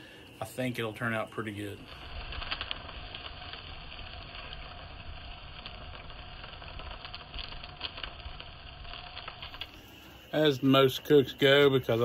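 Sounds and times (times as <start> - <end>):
fire low rumble: 0.0 - 12.0
wood fire crackling and popping: 0.0 - 12.0.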